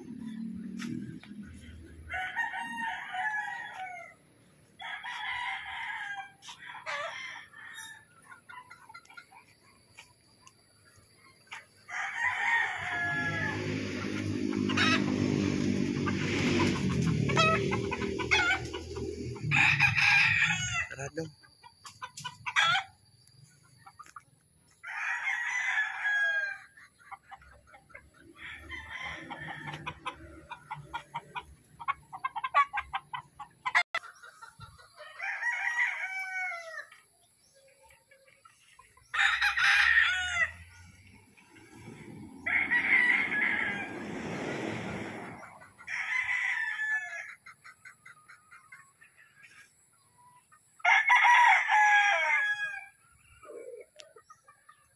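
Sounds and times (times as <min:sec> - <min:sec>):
roosters crowing: 0:00.0 - 0:08.5, 0:11.0 - 0:23.1, 0:24.7 - 0:34.1, 0:34.7 - 0:37.2, 0:38.5 - 0:48.2, 0:50.6 - 0:53.9
rooster clucks: 0:04.8 - 0:10.4, 0:11.0 - 0:25.2, 0:25.9 - 0:37.0, 0:37.8 - 0:49.8, 0:53.3 - 0:54.9.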